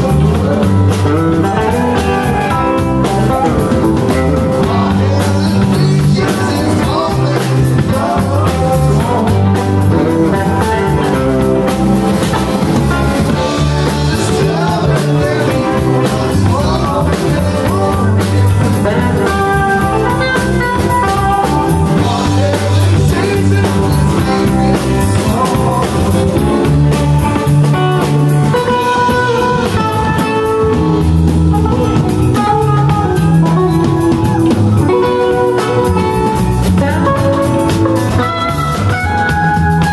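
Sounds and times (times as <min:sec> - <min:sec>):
drum kit: 0:00.0 - 0:39.9
electric guitars: 0:00.0 - 0:39.9
keyboard: 0:00.0 - 0:39.9.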